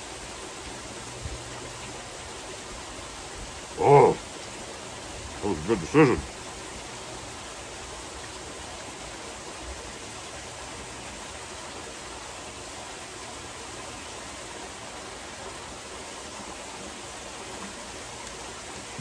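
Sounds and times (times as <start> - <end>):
waterfall splashing into pool: 0.0 - 19.0.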